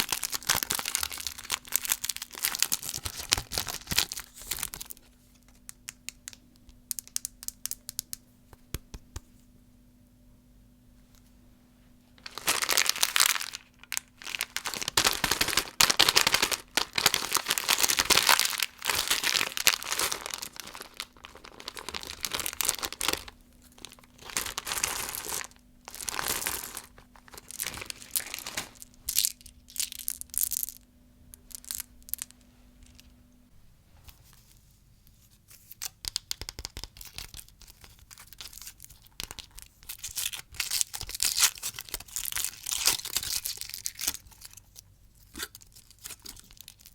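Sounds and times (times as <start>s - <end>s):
candy wrappers crinkling: 0.0s - 8.2s, 12.2s - 30.8s, 31.4s - 33.1s, 35.8s - 46.9s.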